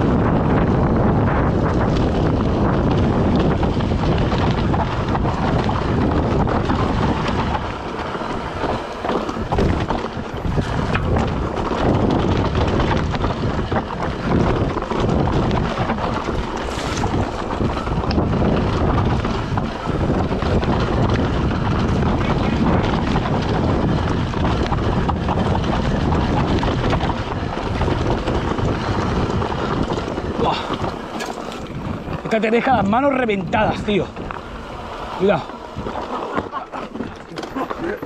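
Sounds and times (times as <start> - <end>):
bike rattling and knocking: 0.0 - 38.0
wind rushing over microphone: 0.0 - 38.0.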